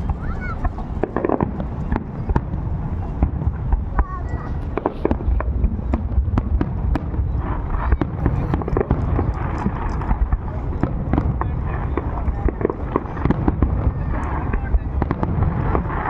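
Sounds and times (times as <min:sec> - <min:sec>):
fireworks cracking and popping: 0:00.0 - 0:16.0.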